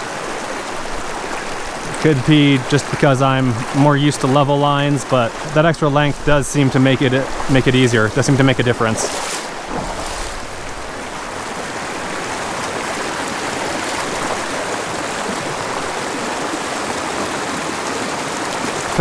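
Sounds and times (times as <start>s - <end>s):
mountain stream flowing over rocks: 0.0s - 19.0s.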